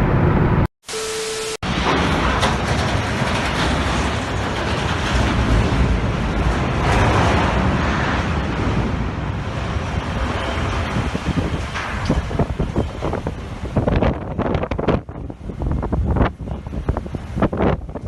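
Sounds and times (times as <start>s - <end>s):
deep rumble: 1.7s - 18.0s
wind buffeting microphone: 2.1s - 18.0s.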